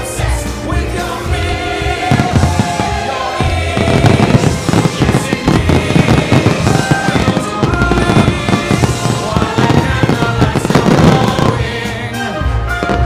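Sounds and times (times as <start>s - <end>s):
loud music: 0.0s - 13.0s
fireworks bangs and crackles: 1.8s - 13.0s.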